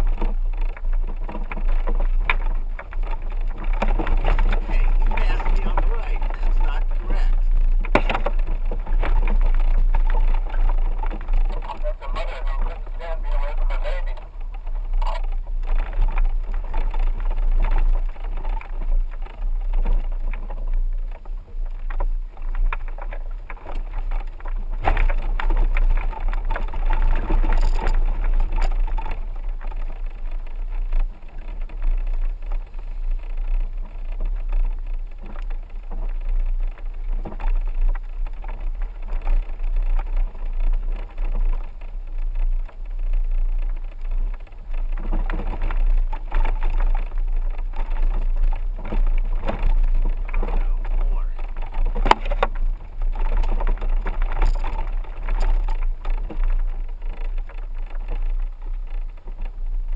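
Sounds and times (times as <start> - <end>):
knocks and rattles over bumps: 0.0 - 59.9
vehicle rumbling on dirt road: 0.0 - 59.9.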